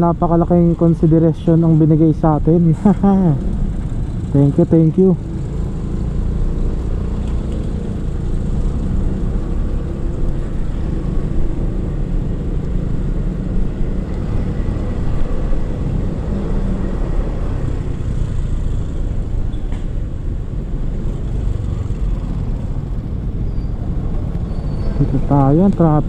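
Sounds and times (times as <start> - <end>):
motorcycle engine: 0.6 - 26.0.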